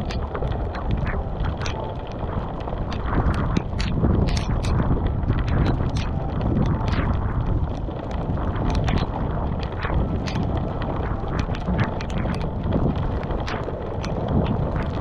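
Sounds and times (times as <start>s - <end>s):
raindrops ticking on microphone: 0.0s - 15.0s
wind buffeting microphone: 0.0s - 15.0s.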